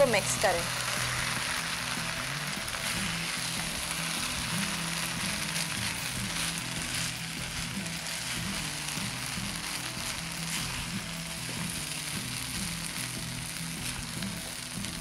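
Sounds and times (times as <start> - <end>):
rice sizzling in a pot: 0.0 - 15.0
soft background music: 0.0 - 15.0.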